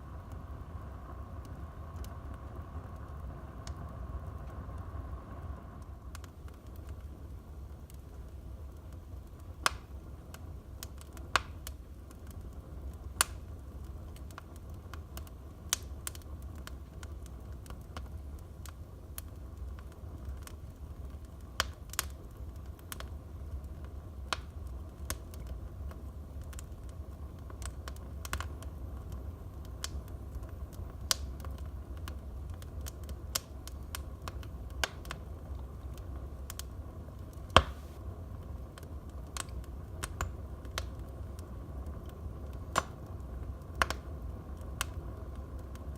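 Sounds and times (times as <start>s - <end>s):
low steady rumble: 0.0s - 45.9s
wood fire crackling and popping: 0.0s - 45.9s.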